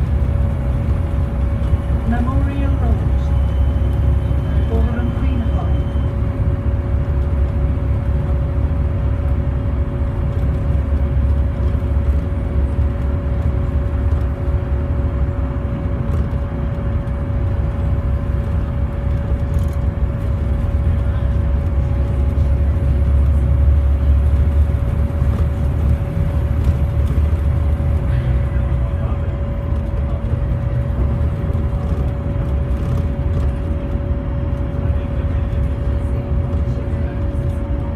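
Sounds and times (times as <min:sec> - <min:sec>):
bus engine rumbling: 0:00.0 - 0:37.9
steady whining tone: 0:00.0 - 0:37.9.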